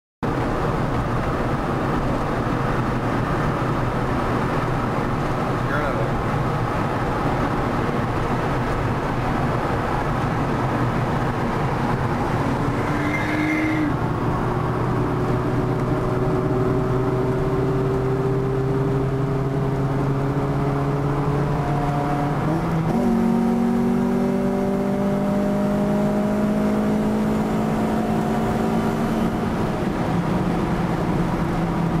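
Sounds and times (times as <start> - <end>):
tyre road noise: 0.2 - 32.0
car engine accelerating: 0.3 - 32.0.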